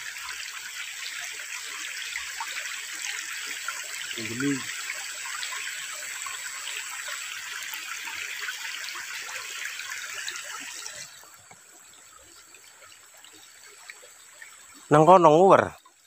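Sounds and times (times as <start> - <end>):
stream trickling over stones: 0.0 - 16.0.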